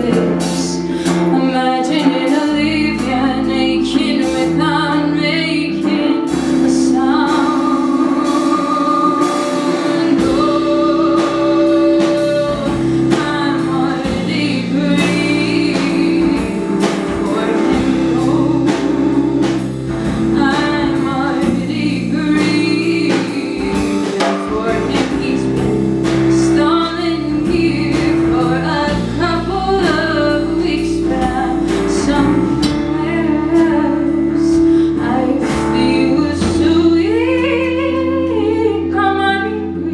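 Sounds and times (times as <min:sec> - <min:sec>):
drums: 0:00.0 - 0:39.9
electric bass: 0:00.0 - 0:39.9
woman singing: 0:00.0 - 0:39.9.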